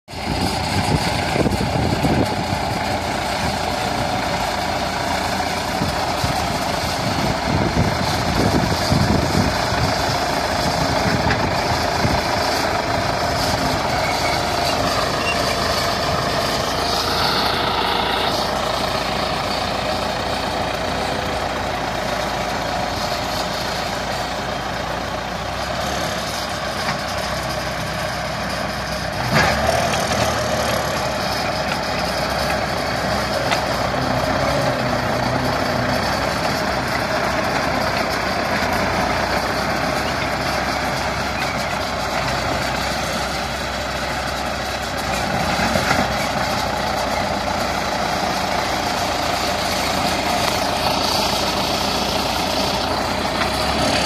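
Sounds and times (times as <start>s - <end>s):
diesel tractor engine running: 0.1s - 54.0s.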